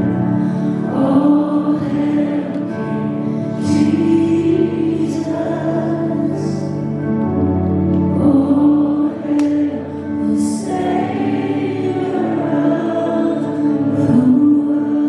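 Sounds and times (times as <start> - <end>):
held keyboard chords: 0.0 - 15.0
voices singing together: 0.8 - 6.8, 8.1 - 15.0.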